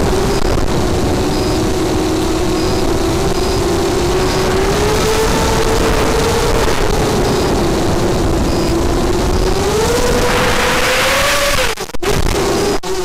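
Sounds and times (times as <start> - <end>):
drone motors whining: 0.0 - 13.0
wind noise: 0.0 - 13.0.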